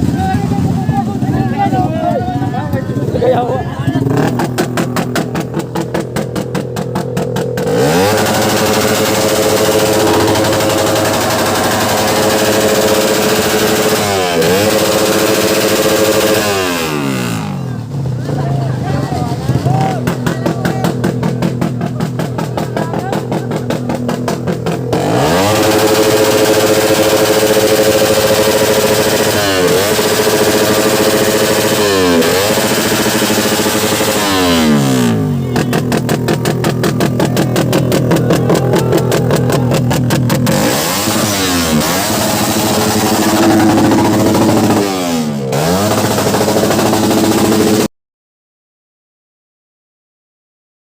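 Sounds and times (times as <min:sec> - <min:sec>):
racing motorcycle engine revving: 0:00.0 - 0:47.9.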